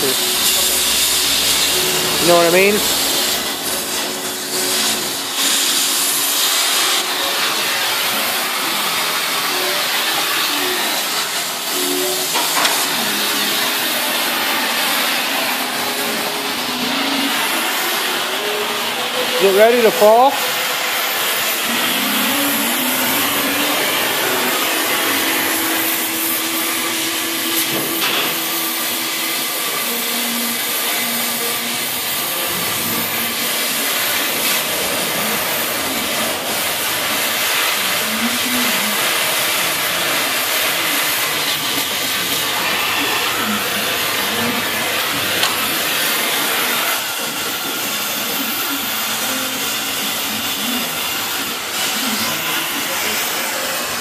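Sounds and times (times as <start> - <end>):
cutting torch hissing: 0.0 - 54.0.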